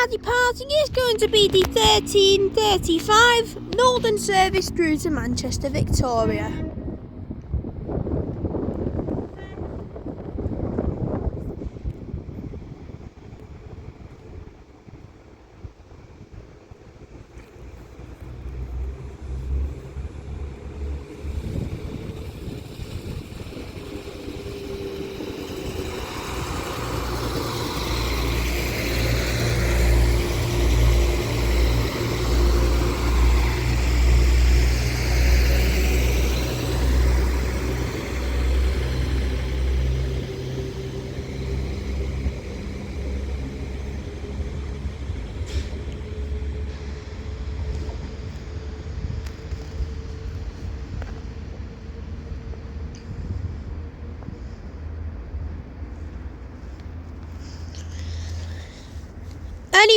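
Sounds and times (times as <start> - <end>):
diesel train engine drone: 0.0 - 59.9
train wheel noise: 0.0 - 59.9.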